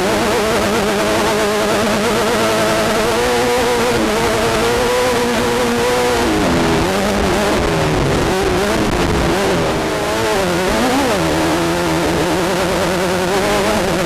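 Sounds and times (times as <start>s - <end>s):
constant rushing noise: 0.0s - 14.0s
race car engine at high revs: 0.0s - 14.0s.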